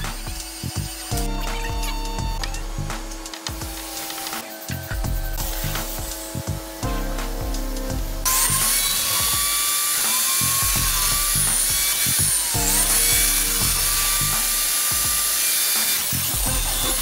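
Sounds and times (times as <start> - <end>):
background music: 0.0 - 17.0
power tool whining: 0.0 - 17.0.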